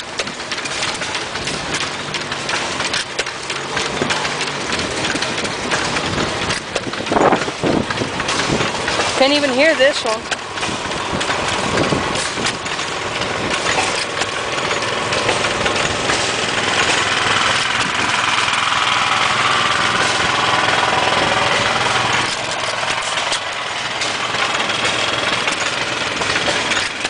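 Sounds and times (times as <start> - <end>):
engines running: 0.0 - 27.0.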